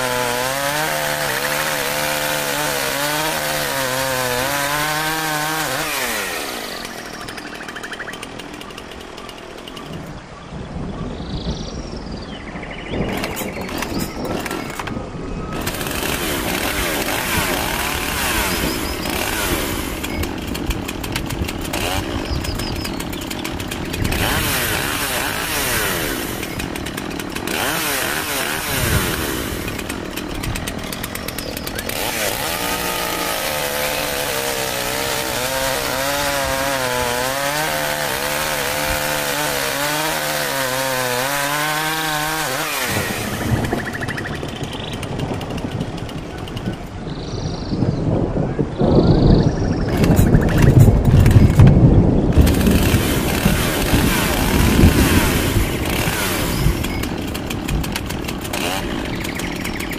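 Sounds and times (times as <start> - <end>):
chainsaw running at high revs: 0.0 - 10.2, 13.1 - 47.2, 49.9 - 59.9.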